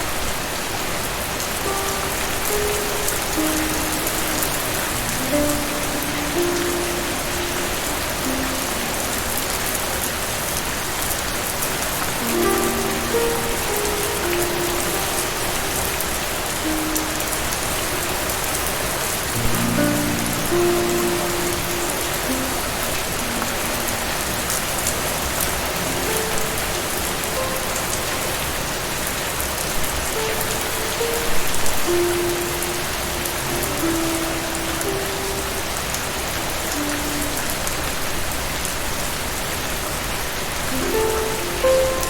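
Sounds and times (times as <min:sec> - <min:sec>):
soft relaxation music: 0:00.0 - 0:42.0
steady rain falling: 0:00.0 - 0:42.0.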